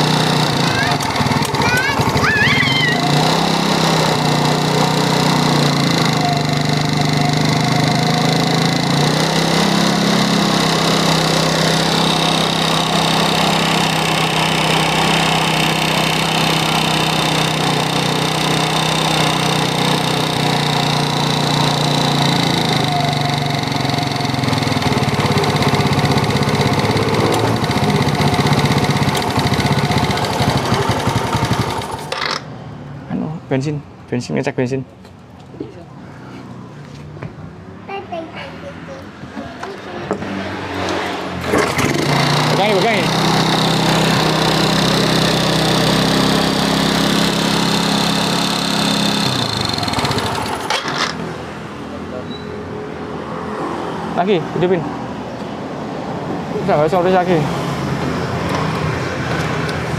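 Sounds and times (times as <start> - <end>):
scooter engine running: 0.0 - 32.5, 39.5 - 51.9, 56.6 - 59.9.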